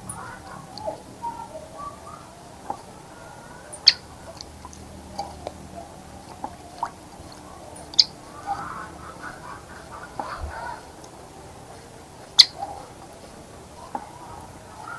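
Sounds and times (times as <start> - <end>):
chickens clucking: 0.0 - 14.9
faint bird chirps: 0.0 - 14.9.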